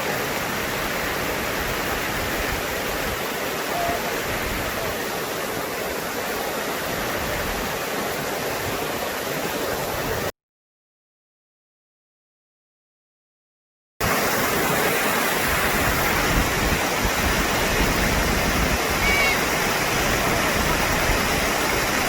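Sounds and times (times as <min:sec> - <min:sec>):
rushing river water: 0:00.0 - 0:10.3, 0:14.0 - 0:22.0.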